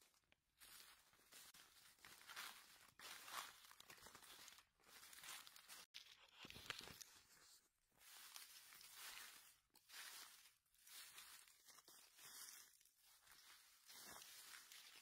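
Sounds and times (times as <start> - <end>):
footsteps on dry leaves: 0.0 - 15.0.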